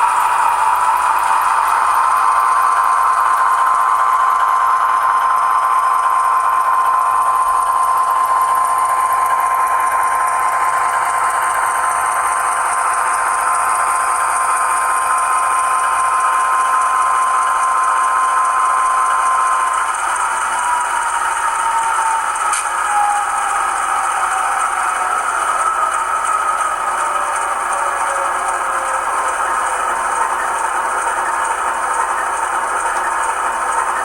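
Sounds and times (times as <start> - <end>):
constant whine: 0.0 - 34.0.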